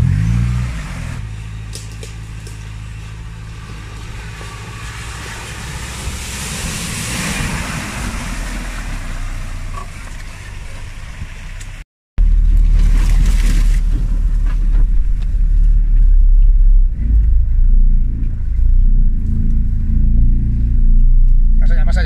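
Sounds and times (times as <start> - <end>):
deep engine rumble: 0.0 - 22.0.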